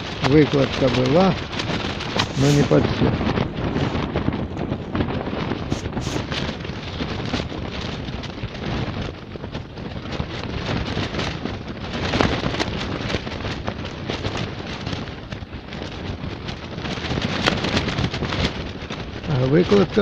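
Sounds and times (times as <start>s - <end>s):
tent fabric flapping: 0.0s - 20.0s
wind rumble on microphone: 0.0s - 20.0s.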